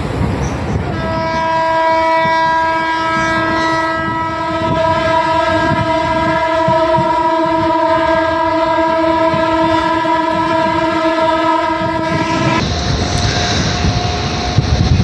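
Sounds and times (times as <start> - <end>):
train coach rumbling: 0.0 - 15.0
train horn blast: 0.9 - 14.6
wind rushing: 2.2 - 15.0.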